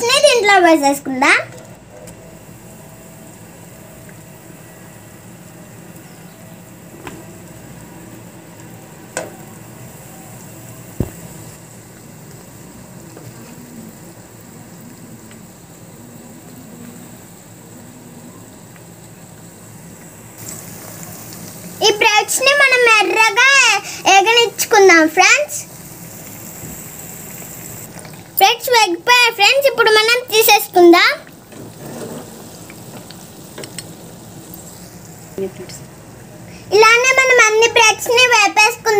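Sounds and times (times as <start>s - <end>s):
bread sizzling in hot oil: 1.8s - 38.9s.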